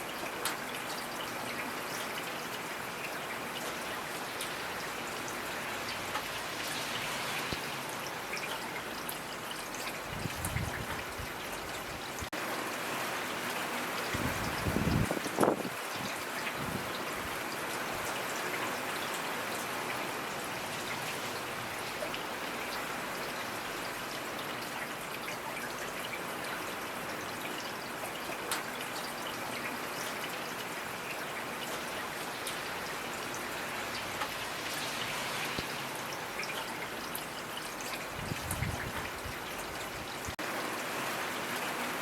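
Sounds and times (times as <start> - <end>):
faint trickling water: 0.0 - 42.0
raindrops pattering: 0.0 - 42.0.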